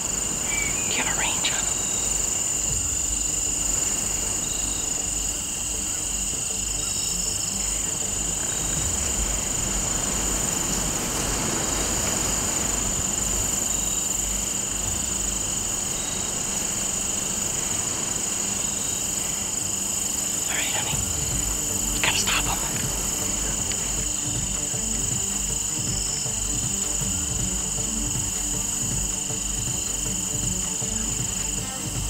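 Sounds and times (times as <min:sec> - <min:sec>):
insect chorus trilling: 0:00.0 - 0:32.0
low rumble: 0:01.6 - 0:19.4, 0:20.6 - 0:32.0.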